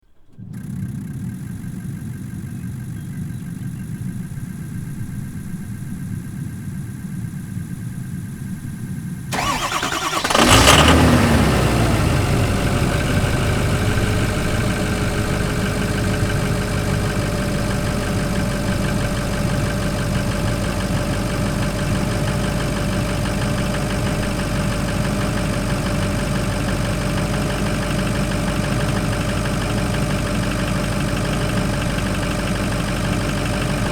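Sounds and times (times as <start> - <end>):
diesel engine starting and idling: 0.0 - 33.9.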